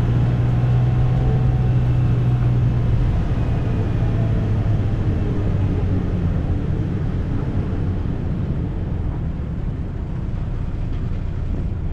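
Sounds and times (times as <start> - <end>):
tyre and road noise: 0.0 - 11.9
vehicle engine rumble: 0.0 - 11.9.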